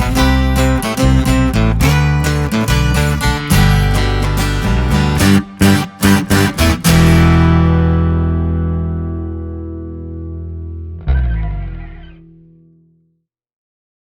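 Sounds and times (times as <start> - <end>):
strummed guitar chords: 0.0 - 12.8.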